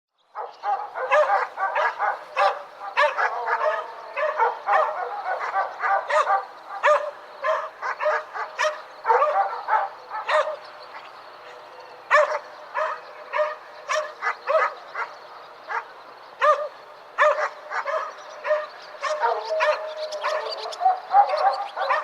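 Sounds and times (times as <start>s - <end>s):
distant dogs barking: 0.2s - 22.0s.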